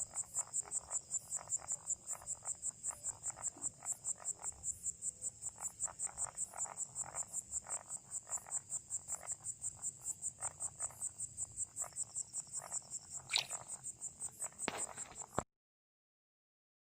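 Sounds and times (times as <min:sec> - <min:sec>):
crickets chirping: 0:00.0 - 0:15.4
frogs croaking: 0:00.0 - 0:15.4.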